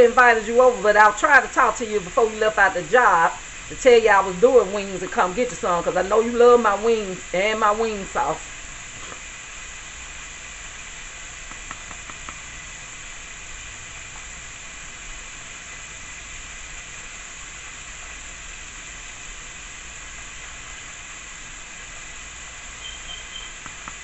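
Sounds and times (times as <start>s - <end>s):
sauce sizzling in a pan: 0.0s - 24.0s.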